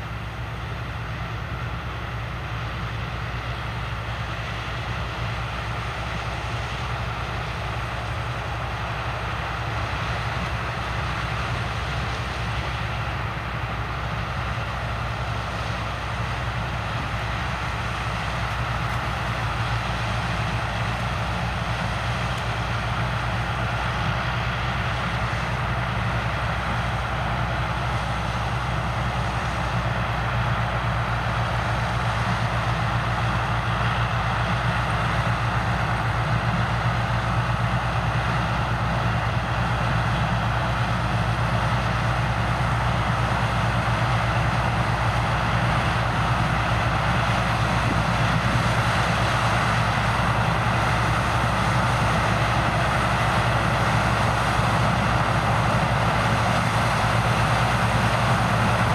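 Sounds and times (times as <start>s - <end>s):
low engine hum: 0.0s - 58.9s
rushing mechanical noise: 4.9s - 58.9s.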